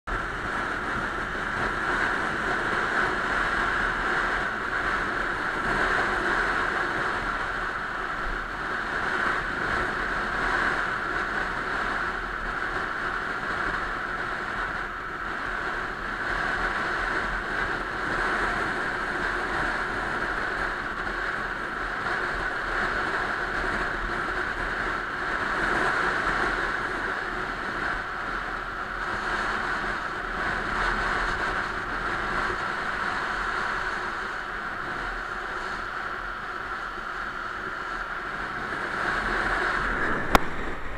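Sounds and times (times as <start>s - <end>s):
road noise from moving vehicle: 0.0s - 40.9s
wind rushing over microphone: 0.1s - 40.9s.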